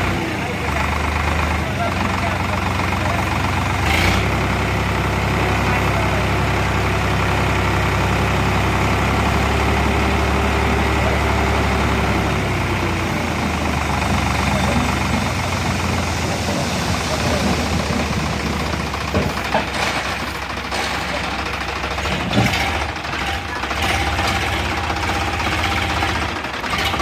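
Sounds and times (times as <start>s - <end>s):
diesel tractor engine idling: 0.0s - 27.0s.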